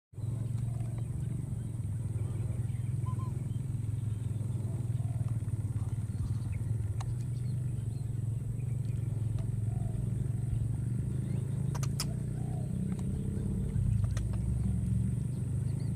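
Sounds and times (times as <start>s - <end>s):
steady low rumble: 0.2s - 15.9s.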